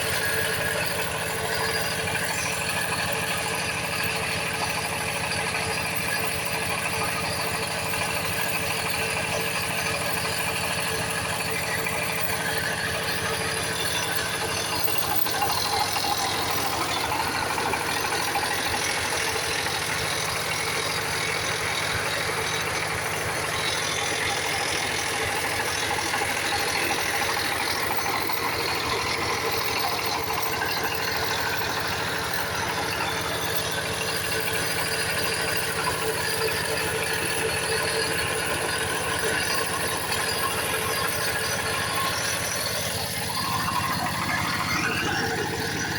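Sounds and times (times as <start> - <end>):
small engine running: 0.0 - 45.9.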